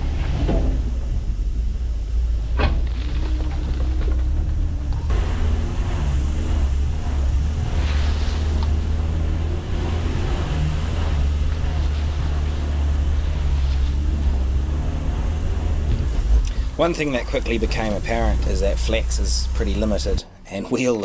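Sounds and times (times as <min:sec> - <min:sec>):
van engine running: 0:00.0 - 0:20.4.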